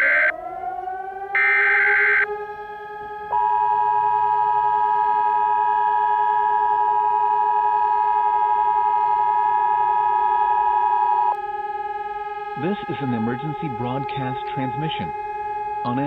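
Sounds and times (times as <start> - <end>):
low electronic drone: 0.0 - 16.0.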